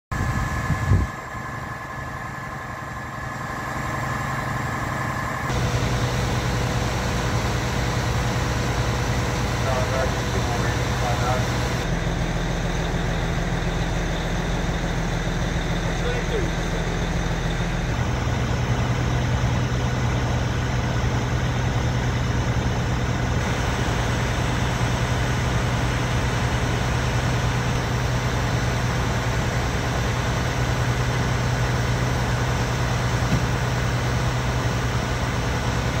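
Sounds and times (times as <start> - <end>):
heavy engine humming: 0.1 - 36.0.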